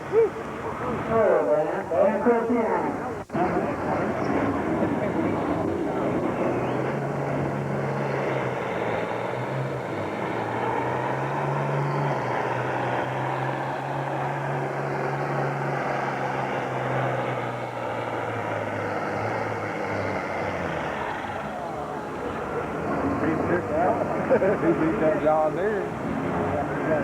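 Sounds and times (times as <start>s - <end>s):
tractor engine under heavy load: 0.0s - 27.0s.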